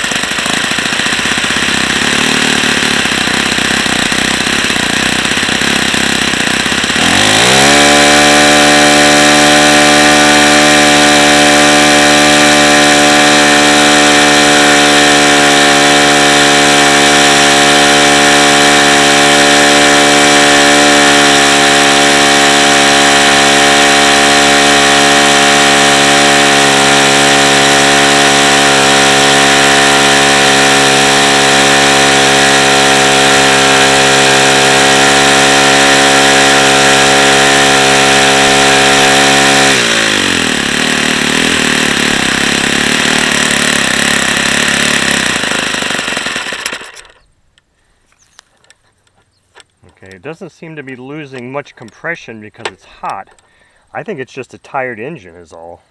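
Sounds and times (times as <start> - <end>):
model engine revving: 0.0 - 47.3.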